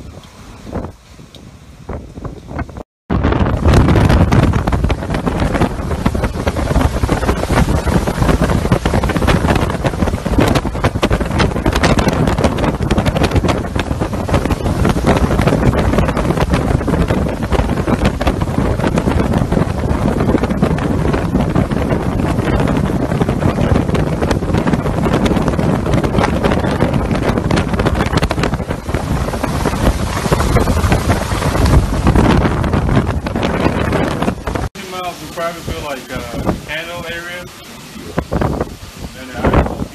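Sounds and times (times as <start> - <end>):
strong wind on microphone: 0.0 - 39.9
wind-driven rain: 0.0 - 39.9.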